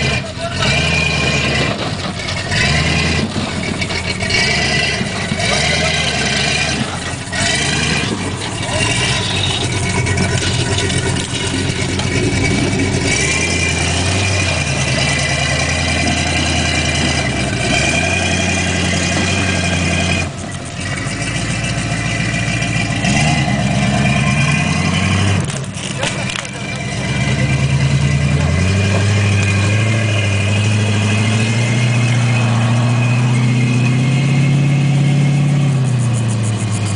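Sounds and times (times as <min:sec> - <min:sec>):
vehicle engine revving: 0:00.0 - 0:36.9.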